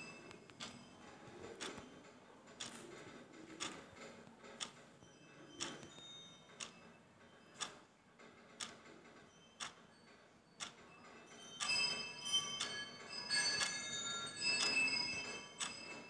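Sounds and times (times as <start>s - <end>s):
steady ticking: 0.0s - 4.8s, 5.6s - 16.0s.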